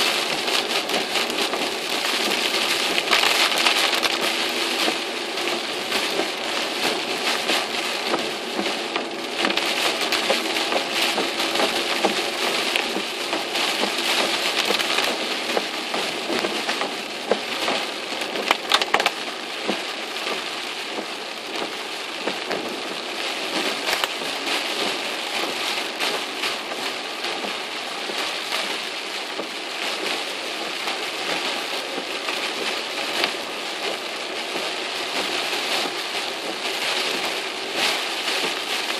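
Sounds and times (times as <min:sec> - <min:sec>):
heavy rain on car roof: 0:00.0 - 0:38.9.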